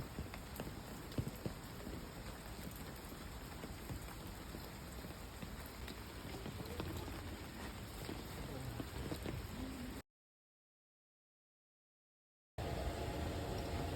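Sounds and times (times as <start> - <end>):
light rain falling: 0.0 - 10.0, 12.6 - 13.9.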